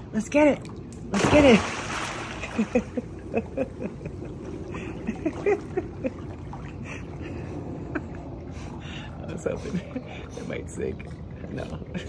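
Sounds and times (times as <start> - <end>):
pool water sloshing and gurgling: 0.0 - 12.0.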